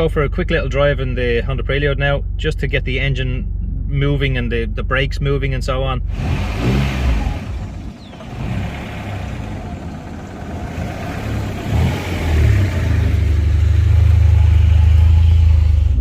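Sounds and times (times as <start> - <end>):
car engine misfiring drone: 0.0 - 16.0.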